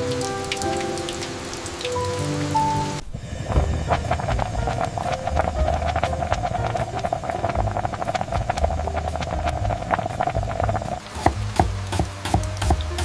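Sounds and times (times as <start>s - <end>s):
soft background music: 0.0s - 13.0s
steady rain: 0.0s - 13.0s.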